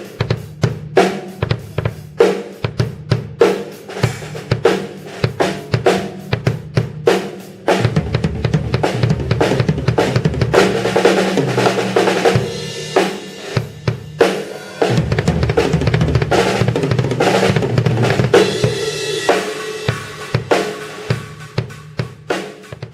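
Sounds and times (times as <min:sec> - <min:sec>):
drum kit fills: 0:00.0 - 0:22.9.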